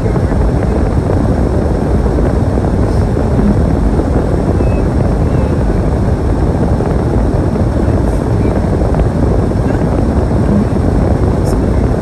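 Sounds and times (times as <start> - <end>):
storm wind on microphone: 0.0 - 12.0.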